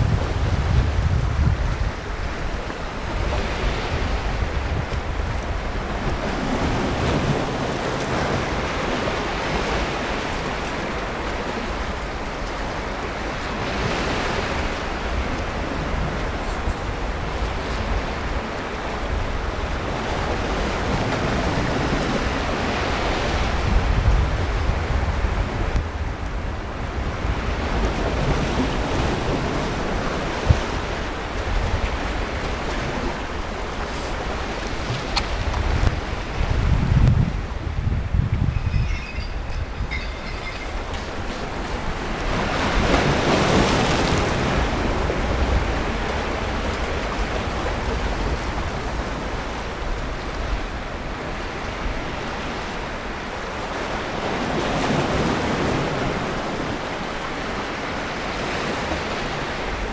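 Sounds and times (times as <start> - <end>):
sea waves breaking on beach: 0.0 - 59.9
wind rumble on microphone: 0.0 - 59.9.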